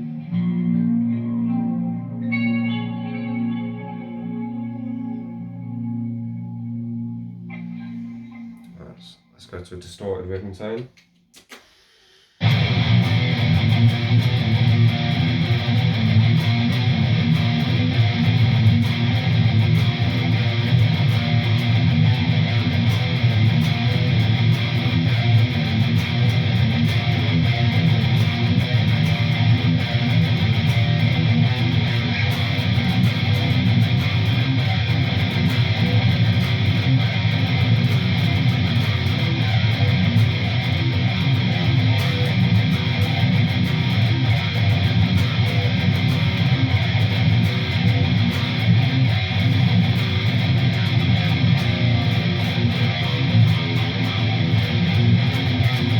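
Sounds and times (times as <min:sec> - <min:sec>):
distorted electric guitar riff: 0:00.0 - 0:09.4, 0:12.4 - 0:55.9.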